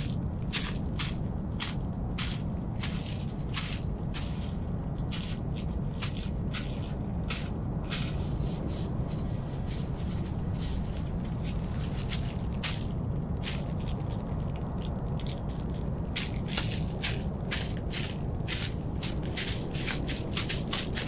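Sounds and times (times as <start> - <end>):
crisp crackles and rustles: 0.0 - 21.0
steady low rumble: 0.0 - 21.0.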